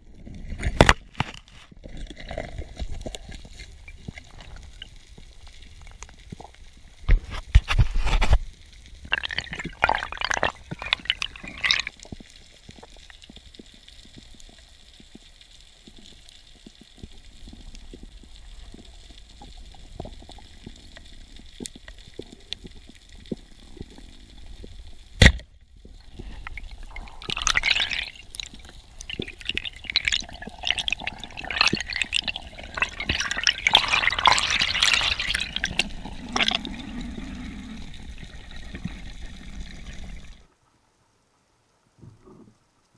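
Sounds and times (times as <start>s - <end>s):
water rushing and bubbling: 0.0s - 40.5s
faint underwater crackling: 0.0s - 42.9s.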